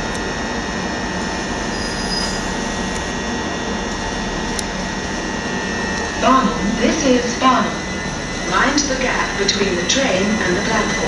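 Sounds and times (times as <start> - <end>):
high whine: 0.0 - 11.0
train mechanical hum: 0.0 - 11.0.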